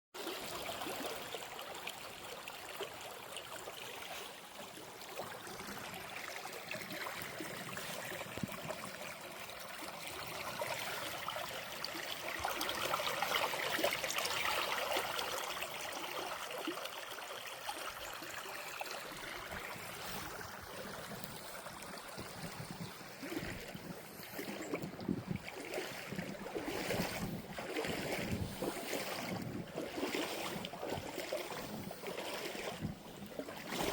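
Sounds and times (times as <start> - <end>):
running water rushing: 0.2 - 33.9.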